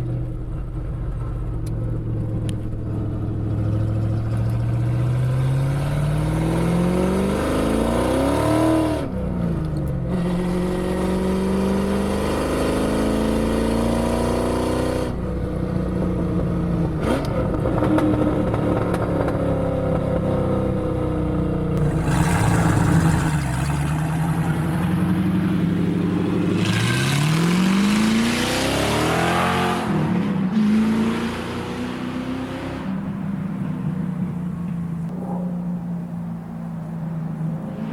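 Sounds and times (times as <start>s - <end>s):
car engine accelerating: 0.0s - 15.2s, 21.8s - 37.9s.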